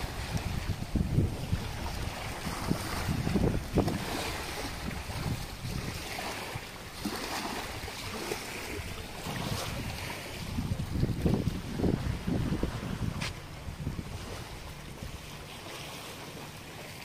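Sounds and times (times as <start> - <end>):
wind rumbling on microphone: 0.0 - 15.5
small waves lapping on shore: 0.0 - 17.0.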